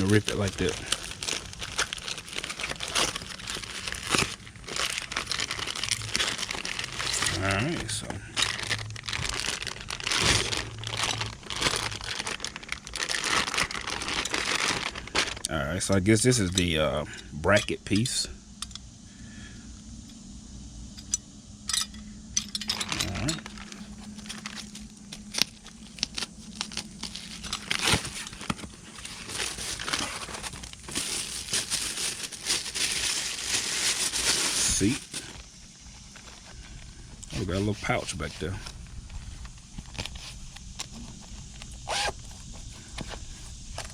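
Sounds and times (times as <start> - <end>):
packaging wrap crinkling: 0.0 - 16.4, 22.8 - 43.9.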